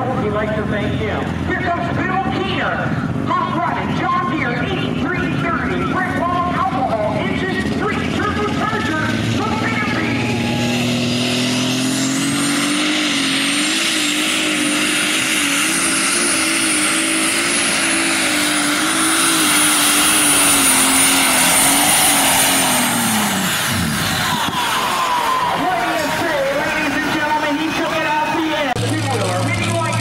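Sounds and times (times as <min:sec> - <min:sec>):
tractor engine at high revs: 0:00.0 - 0:30.0.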